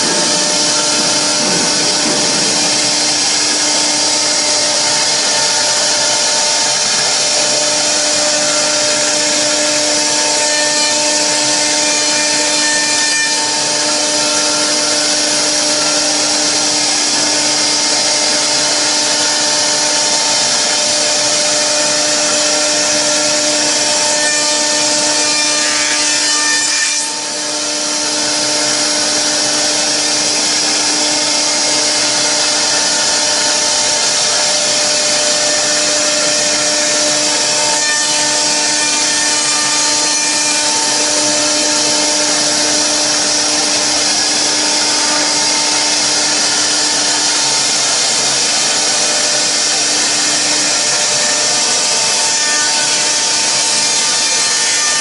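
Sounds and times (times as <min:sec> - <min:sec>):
router spindle whine: 0:00.0 - 0:55.0.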